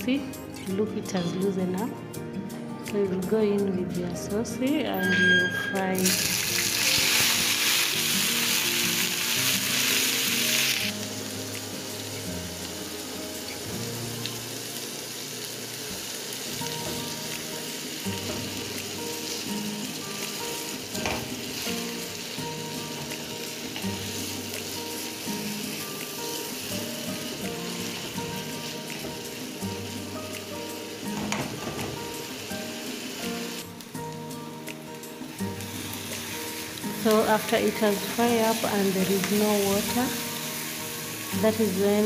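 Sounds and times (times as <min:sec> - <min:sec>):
soya chunks sizzling in oil: 0:06.0 - 0:42.0.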